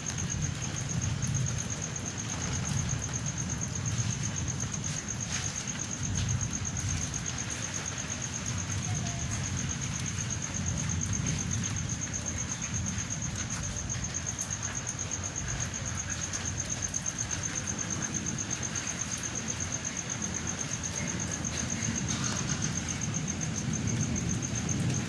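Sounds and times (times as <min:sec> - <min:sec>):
cricket chirping: 0:00.0 - 0:25.0
thunderstorm rumble: 0:00.0 - 0:25.0.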